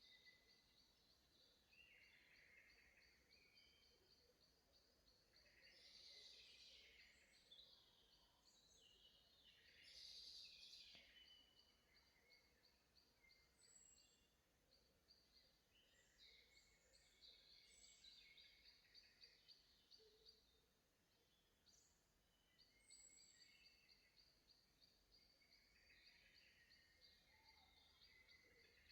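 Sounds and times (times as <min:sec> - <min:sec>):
songbirds singing: 0:00.0 - 0:28.9.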